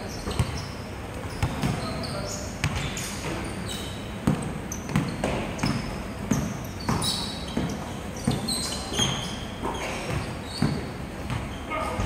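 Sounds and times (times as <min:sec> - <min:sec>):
basketball bouncing on wooden court: 0:00.0 - 0:12.0.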